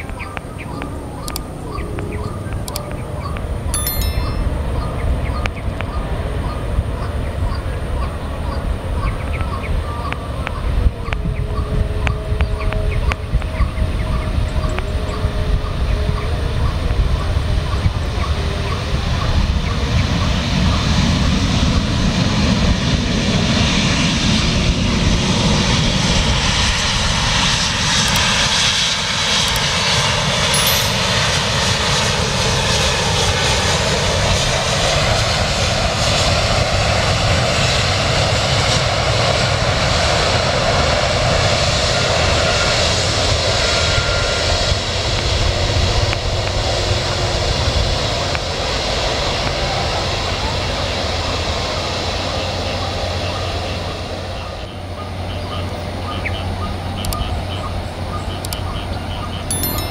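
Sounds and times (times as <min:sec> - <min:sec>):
airliner engines running: 0:00.0 - 0:03.7, 0:04.4 - 0:59.5.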